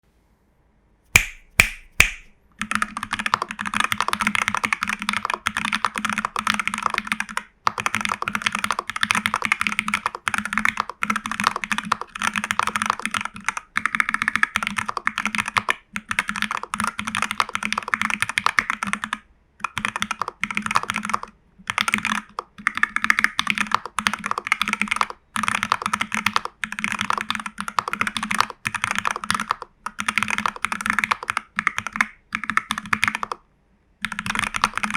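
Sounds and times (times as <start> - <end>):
mechanical keyboard typing: 1.2 - 33.4, 34.0 - 34.9.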